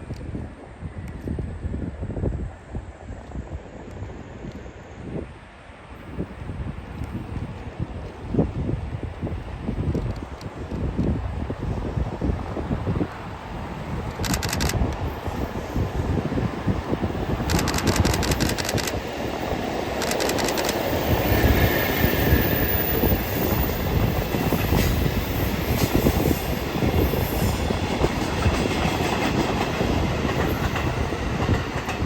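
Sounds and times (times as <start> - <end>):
freight train rumbling past: 0.0 - 32.0.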